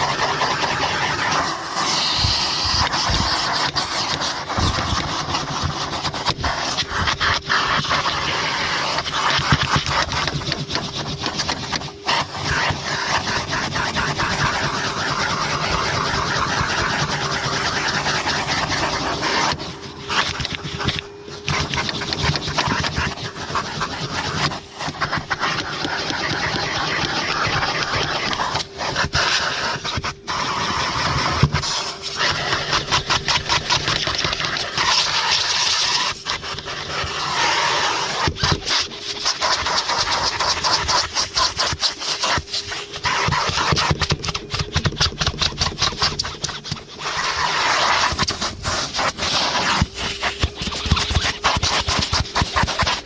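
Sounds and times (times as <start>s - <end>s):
vacuum cleaner motor hum: 0.0s - 44.8s, 46.0s - 52.8s
vacuum nozzle scraping and rattling: 0.0s - 53.0s.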